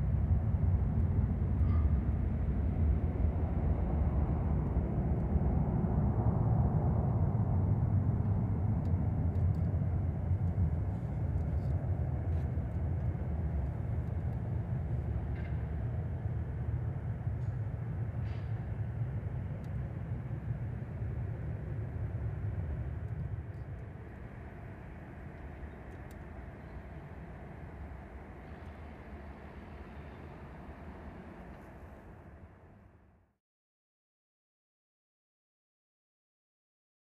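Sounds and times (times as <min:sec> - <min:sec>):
jet engine low rumble: 0:00.0 - 0:33.4.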